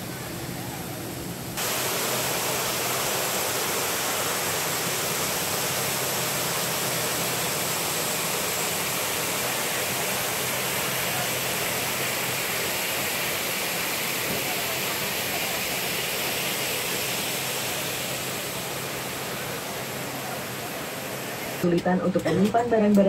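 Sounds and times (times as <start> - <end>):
aircraft turbine roar and whine: 0.0 - 23.0.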